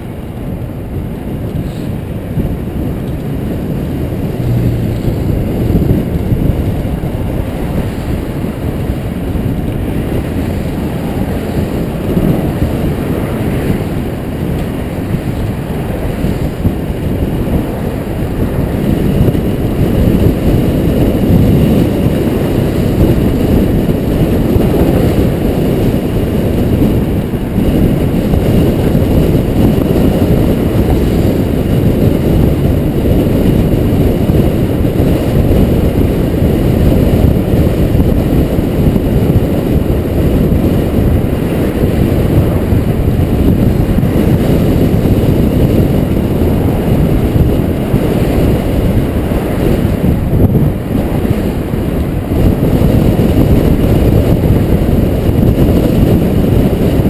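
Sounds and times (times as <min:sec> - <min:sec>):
tyre-on-road noise: 0:00.0 - 0:57.0
wind buffeting microphone: 0:00.0 - 0:57.0.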